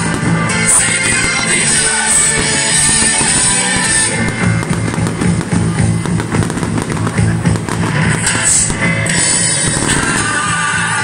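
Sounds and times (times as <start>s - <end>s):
fireworks bangs and crackling: 0.0s - 11.0s
loud rock music: 0.0s - 11.0s.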